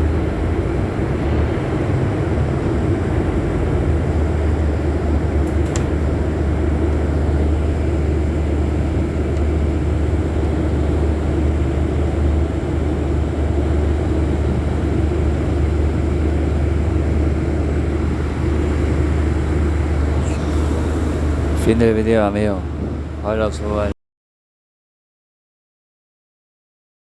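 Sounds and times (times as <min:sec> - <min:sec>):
bus diesel engine rumbling: 0:00.0 - 0:24.0.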